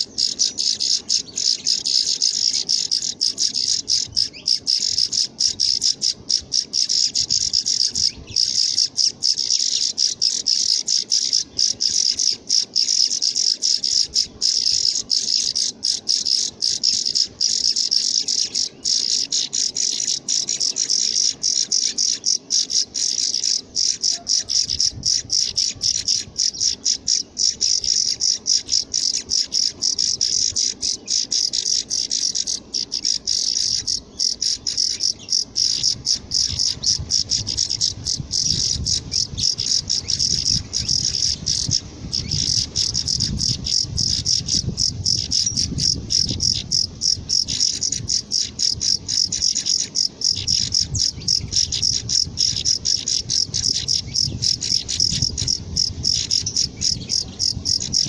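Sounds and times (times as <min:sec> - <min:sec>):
nestlings cheeping: 0:00.0 - 0:58.0.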